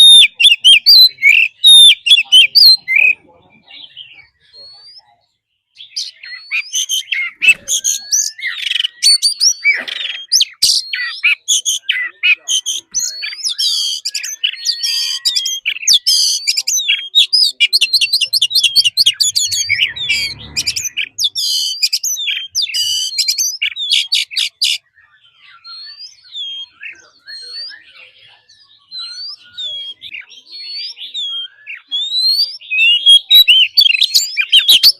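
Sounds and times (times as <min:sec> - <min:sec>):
songbird whistles and trills: 0:00.0 - 0:34.9.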